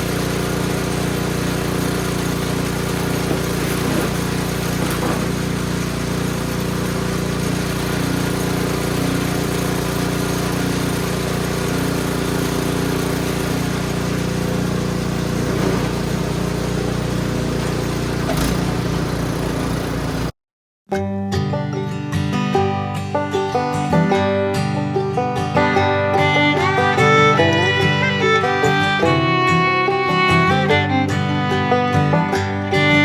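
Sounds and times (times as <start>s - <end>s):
snow blower engine running: 0.0s - 20.3s, 25.7s - 33.0s.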